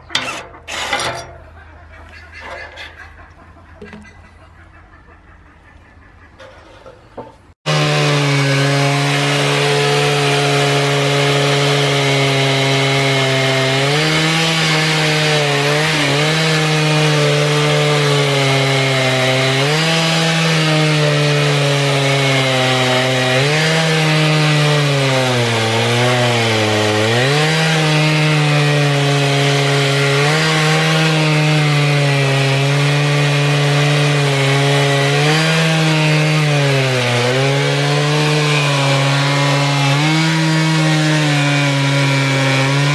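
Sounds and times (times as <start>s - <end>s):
chainsaw ripping a log: 7.7s - 42.9s.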